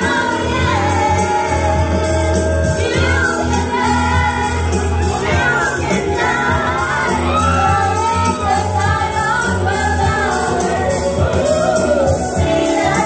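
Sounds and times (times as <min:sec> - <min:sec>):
backing track with beat and bass: 0:00.0 - 0:13.0
women singing into a microphone: 0:00.0 - 0:13.0.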